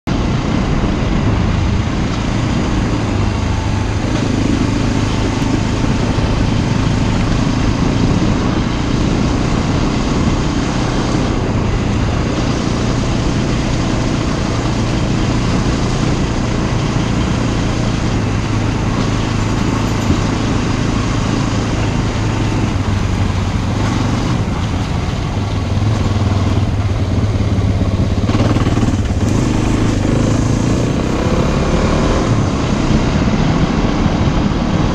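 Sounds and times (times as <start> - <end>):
motorcycle engine running: 0.0 - 34.9
wind and tyre noise: 0.0 - 34.9.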